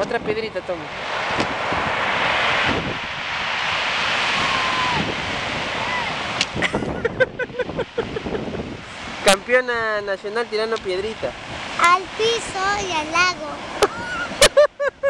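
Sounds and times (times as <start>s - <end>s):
wind buffeting microphone: 0.0s - 14.5s
surf washing over pebbles: 0.0s - 14.6s.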